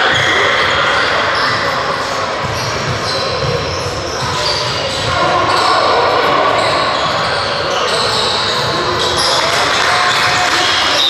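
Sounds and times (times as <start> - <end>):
echoing hall sound: 0.0 - 11.0.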